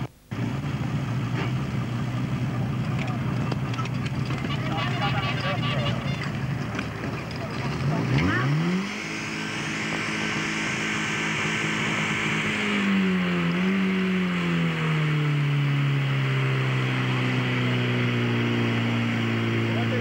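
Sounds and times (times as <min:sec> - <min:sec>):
pump engine running: 0:00.0 - 0:20.0.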